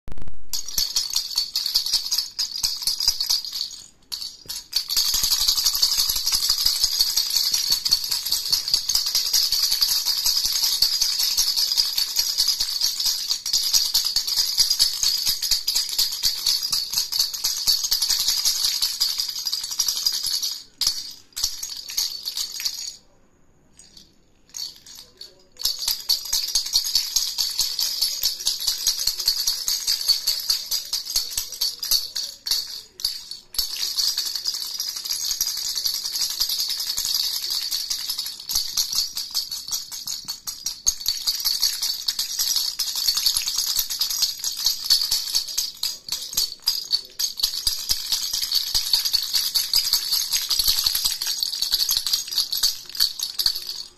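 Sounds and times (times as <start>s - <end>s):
plastic baby rattle shaken: 0.4s - 23.0s, 23.8s - 53.9s.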